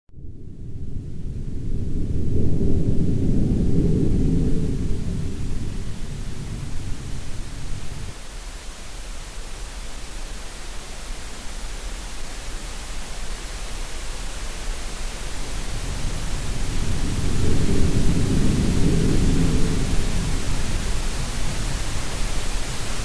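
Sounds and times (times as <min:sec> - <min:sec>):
steady noise hiss: 0:00.2 - 0:23.0.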